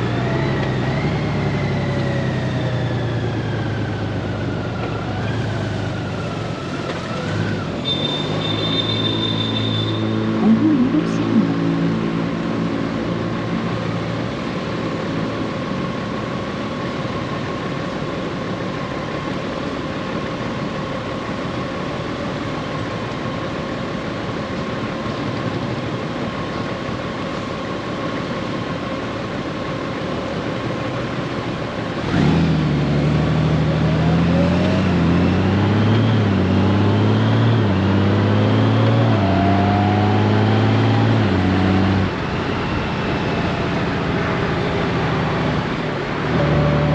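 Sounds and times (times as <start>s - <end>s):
road noise: 0.0s - 46.9s.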